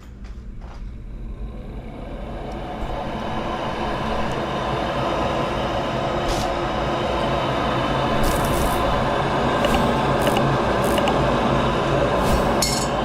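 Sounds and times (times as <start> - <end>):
gas furnace rumbling: 0.0 - 13.0.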